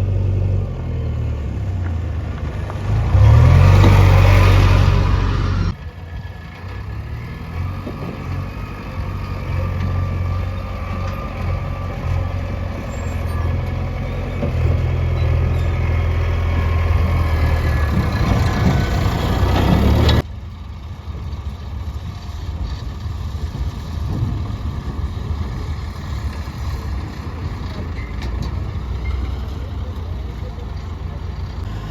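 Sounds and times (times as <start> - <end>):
diesel machinery engine under load: 0.0 - 31.9.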